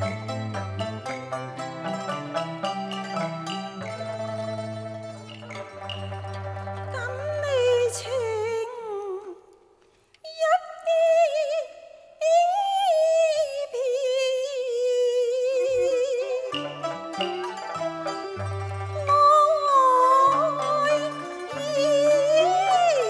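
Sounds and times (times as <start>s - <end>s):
traditional opera ensemble music: 0.0s - 9.3s, 12.2s - 23.0s.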